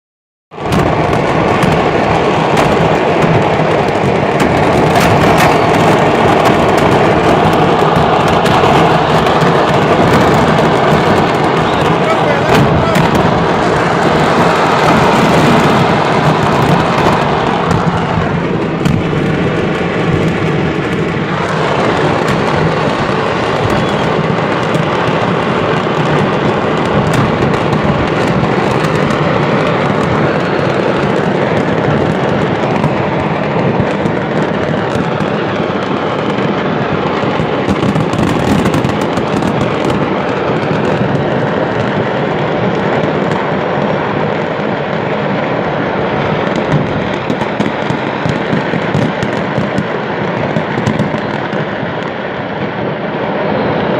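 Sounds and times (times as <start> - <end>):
fireworks rumbling: 0.5 - 53.9
sharp firework cracks: 0.5 - 53.9.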